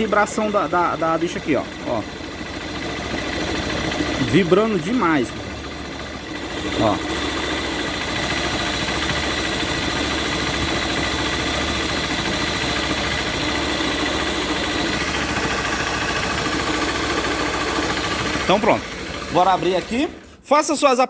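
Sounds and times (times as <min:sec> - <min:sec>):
motorcycle engine idling: 0:00.0 - 0:20.5.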